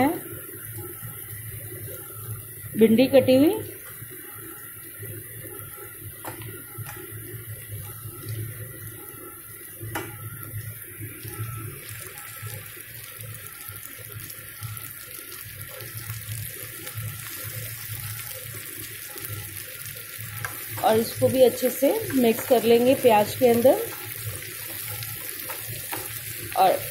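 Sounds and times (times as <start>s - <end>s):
vegetables sizzling in oil: 0.0s - 26.9s.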